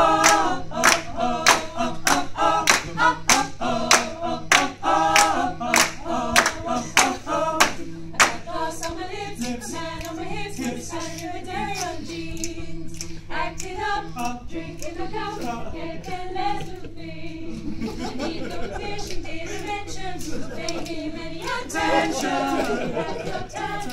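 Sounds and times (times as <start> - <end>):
group singing a cappella: 0.0 - 23.9
rhythmic hand claps: 0.0 - 23.9.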